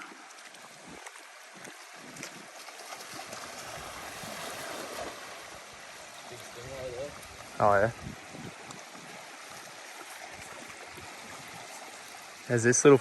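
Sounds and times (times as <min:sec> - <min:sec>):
faint wash of water: 0:00.0 - 0:13.0
wind: 0:00.0 - 0:13.0.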